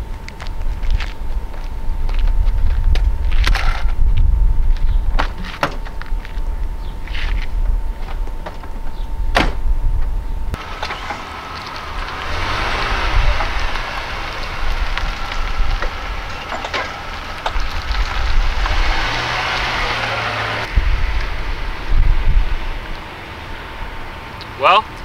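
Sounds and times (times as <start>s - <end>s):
low engine rumble: 0.0s - 25.0s
tyre and road noise: 0.0s - 25.0s.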